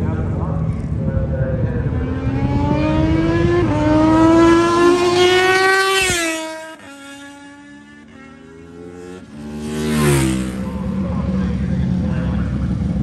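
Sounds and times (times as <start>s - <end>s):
race engine accelerating: 1.7s - 13.0s.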